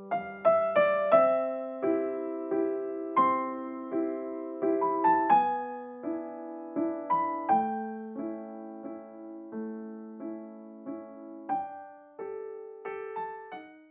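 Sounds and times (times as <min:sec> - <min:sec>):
gentle piano music: 0:00.0 - 0:13.9.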